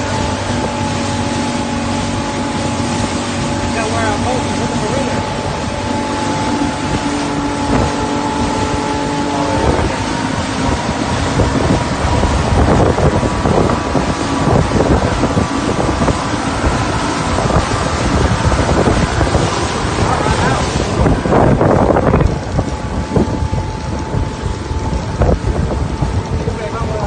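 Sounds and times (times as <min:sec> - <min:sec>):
motorboat engine running: 0:00.0 - 0:27.0
water rushing past hull: 0:00.0 - 0:27.0
wind buffeting microphone: 0:00.0 - 0:27.0.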